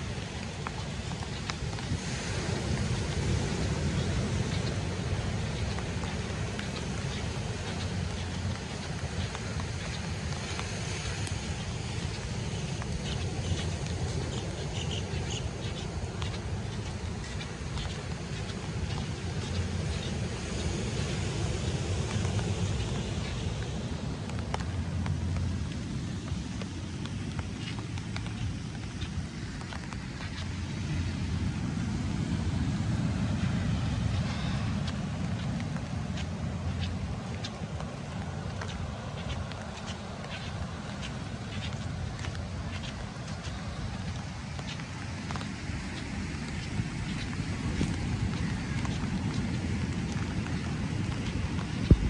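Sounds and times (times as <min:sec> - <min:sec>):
rain hissing: 0:00.0 - 0:52.0
wind rumbling on microphone: 0:00.0 - 0:52.0
light ticks: 0:00.1 - 0:31.1, 0:33.4 - 0:52.0.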